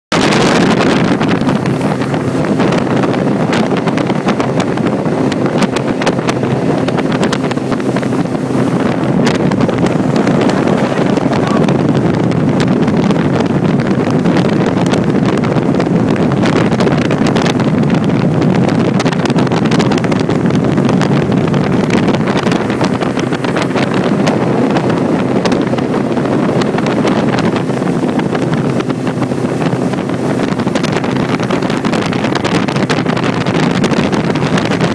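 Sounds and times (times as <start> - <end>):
motorboat engine running: 0.1 - 34.9
water rushing past hull: 0.1 - 34.9
wind buffeting microphone: 0.1 - 34.9.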